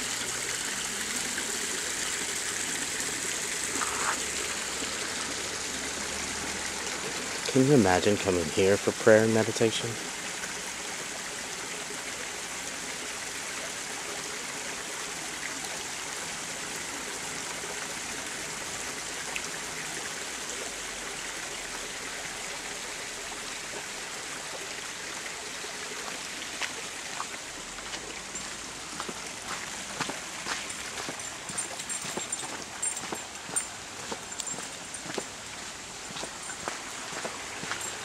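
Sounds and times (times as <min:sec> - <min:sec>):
creek water rushing: 0:00.0 - 0:38.0.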